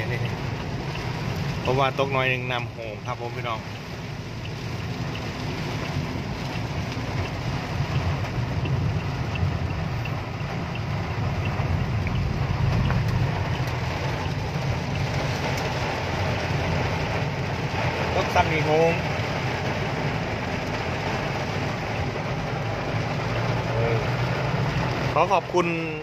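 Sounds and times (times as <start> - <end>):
heavy rain on car windshield: 0.0 - 26.0.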